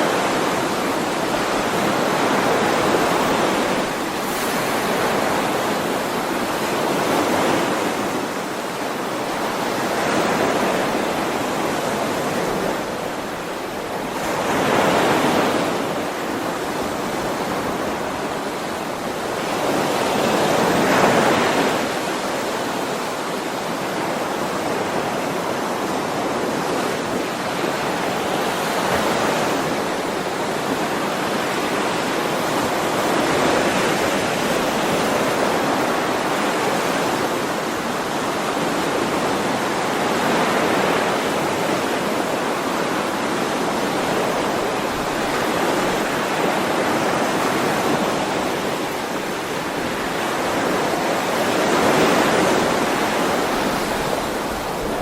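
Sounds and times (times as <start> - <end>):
ocean waves washing in: 0.0 - 55.0.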